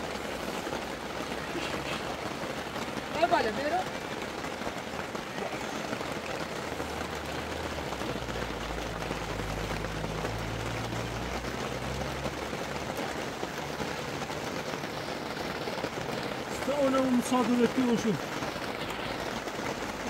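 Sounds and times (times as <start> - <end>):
rain on a canvas tent: 0.0 - 20.0.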